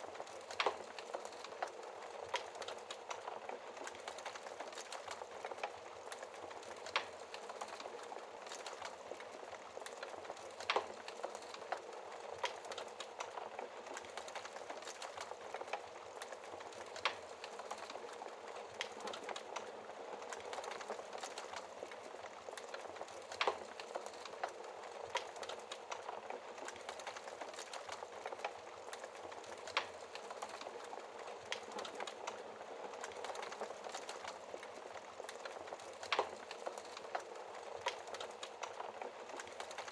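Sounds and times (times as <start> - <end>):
fire crackling and popping: 0.0 - 39.9
wood fire hissing: 0.0 - 39.9.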